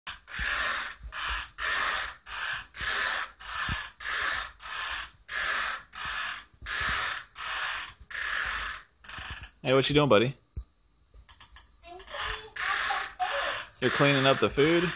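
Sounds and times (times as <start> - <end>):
toy push vacuum rattling whirr: 0.1 - 9.5, 11.4 - 14.9.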